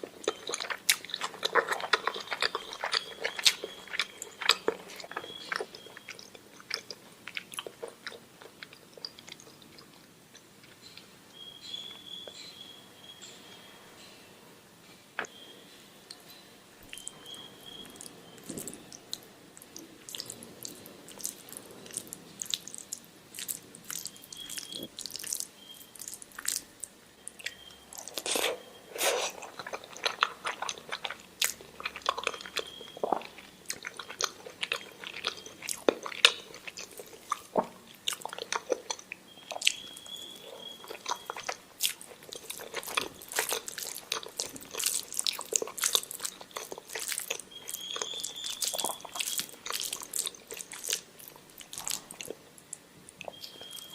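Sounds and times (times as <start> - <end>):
person chewing food: 0.0 - 11.1, 16.9 - 53.9.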